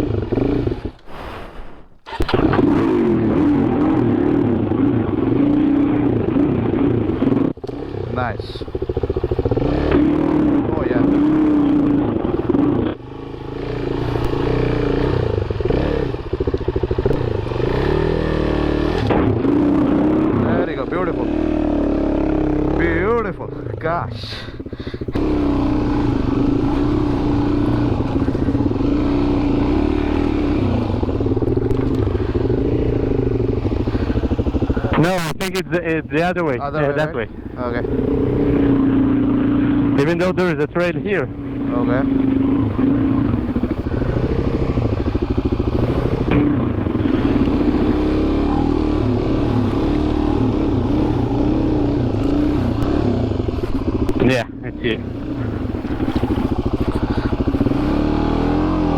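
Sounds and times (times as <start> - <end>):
motorcycle engine revving: 0.0 - 1.3, 2.0 - 58.9.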